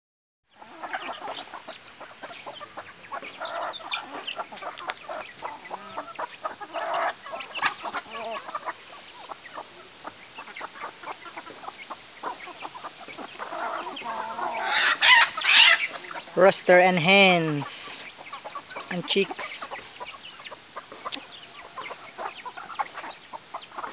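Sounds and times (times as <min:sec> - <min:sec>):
hens and rooster clucking: 0:00.5 - 0:23.9.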